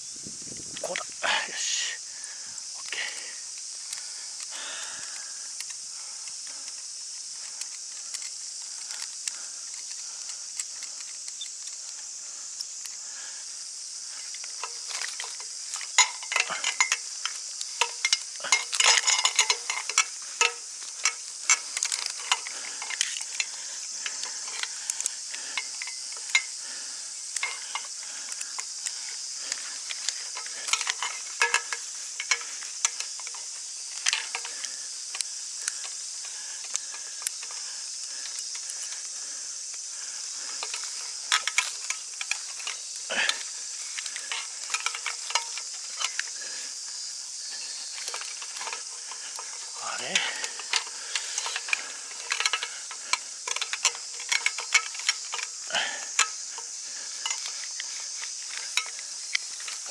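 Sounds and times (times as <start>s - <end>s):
high insect drone: 0.0s - 59.9s
handling clicks and rustles: 2.6s - 13.1s, 13.7s - 59.9s.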